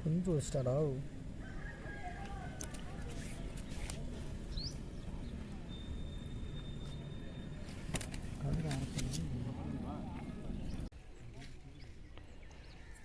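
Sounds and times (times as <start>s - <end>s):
distant voices: 0.0s - 13.0s.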